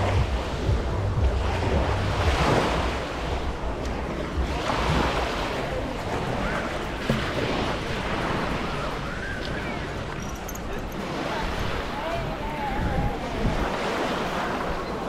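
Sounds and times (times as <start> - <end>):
waves washing on pebbles: 0.0 - 12.4
wind on microphone: 0.0 - 15.0.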